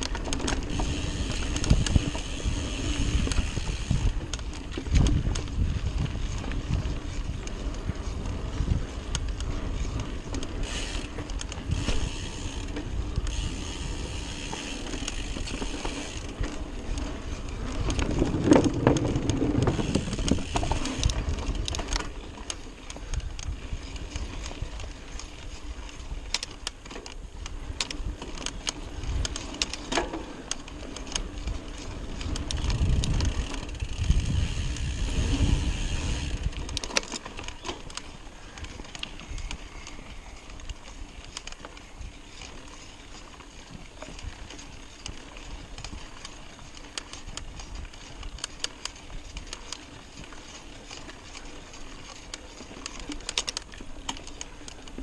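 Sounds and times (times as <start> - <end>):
bike rattles and clicks: 0.0 - 55.0
bike tyres rumbling on dirt: 0.0 - 55.0.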